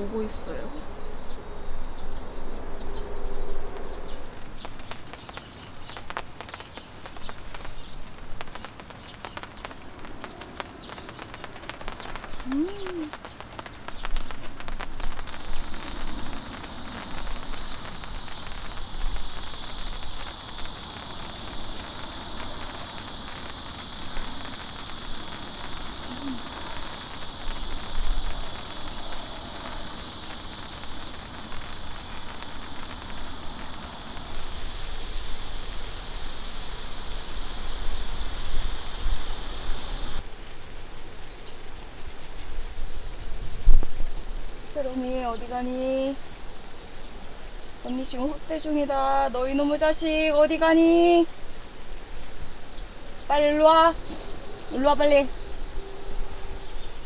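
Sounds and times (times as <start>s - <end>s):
high-pitched insect chorus: 0.0s - 57.0s
rain pattering on a tarp: 2.5s - 57.0s.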